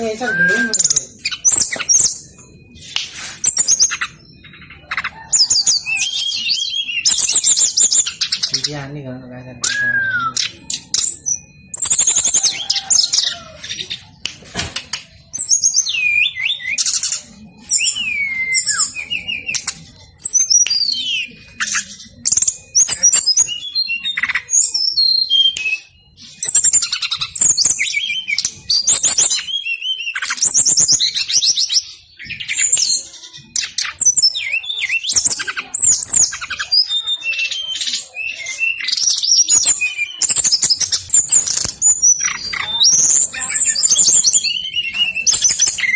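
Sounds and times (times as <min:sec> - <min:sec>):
bird singing whistled notes and trills: 0:00.0 - 0:45.9.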